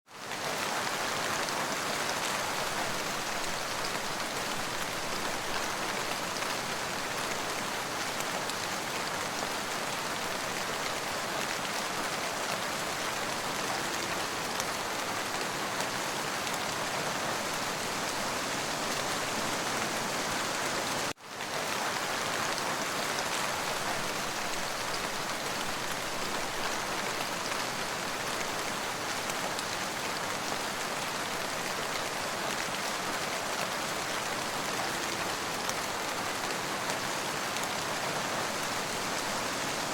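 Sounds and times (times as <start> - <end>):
rain falling: 0.1 - 39.9.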